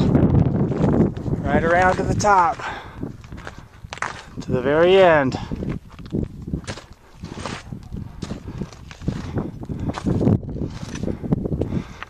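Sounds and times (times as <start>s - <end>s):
wind buffeting microphone: 0.0s - 12.0s
footsteps crunching on loose rock: 0.1s - 12.0s.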